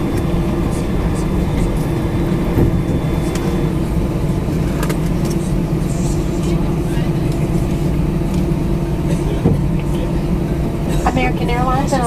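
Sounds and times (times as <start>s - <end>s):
aircraft cabin rumble and hum: 0.0s - 12.0s.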